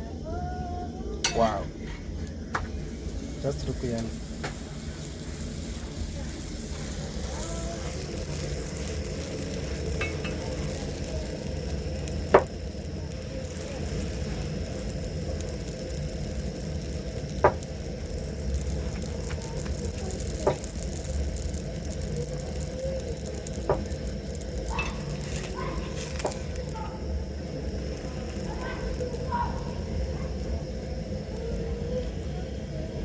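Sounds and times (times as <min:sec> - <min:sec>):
flatbread sizzling in oil: 0:01.2 - 0:33.0.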